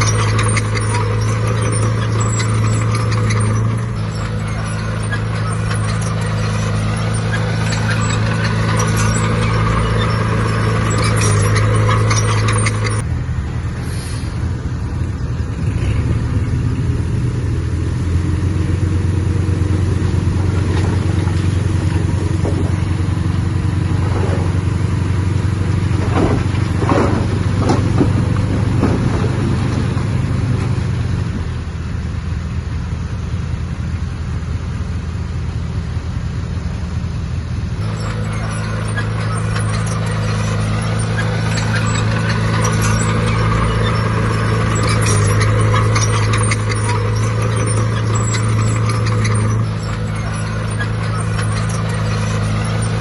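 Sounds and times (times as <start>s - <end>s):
metallic clanking and squeaking: 0.0s - 13.1s, 17.5s - 32.0s, 37.8s - 53.0s
diesel machinery running: 0.0s - 53.0s.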